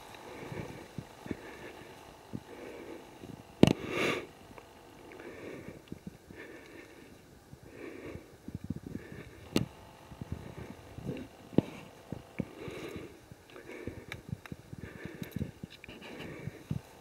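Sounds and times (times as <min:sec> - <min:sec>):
heavy breathing: 0:00.0 - 0:17.0.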